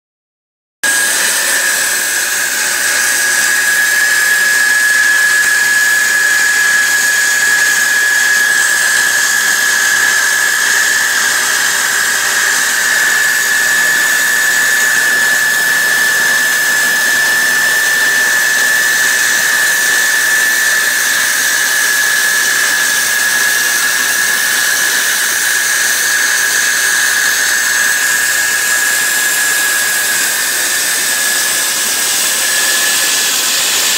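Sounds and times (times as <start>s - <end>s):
high-pitched mechanical whine: 0.8s - 33.9s.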